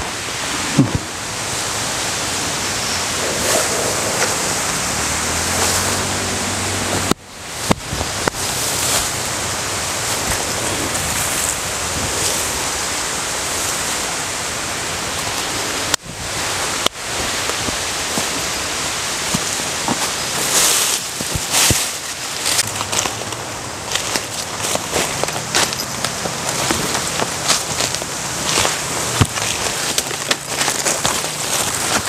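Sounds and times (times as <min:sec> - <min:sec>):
loud rushing outdoor noise: 0:00.0 - 0:32.0.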